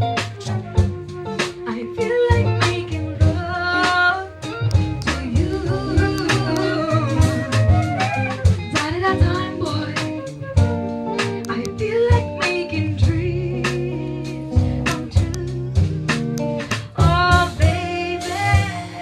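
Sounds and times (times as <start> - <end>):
slow soul ballad band music: 0.0 - 19.0.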